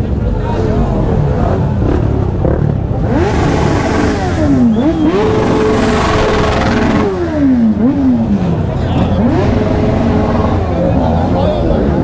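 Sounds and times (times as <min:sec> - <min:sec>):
motorcycle engine revving: 0:00.0 - 0:12.0
rumble of many engines: 0:00.0 - 0:12.0.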